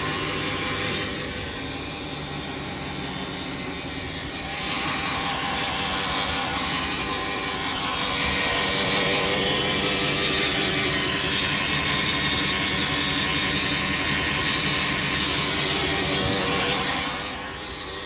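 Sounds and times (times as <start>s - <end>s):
car engine running: 0.0s - 18.0s
drivetrain noise: 0.0s - 18.0s.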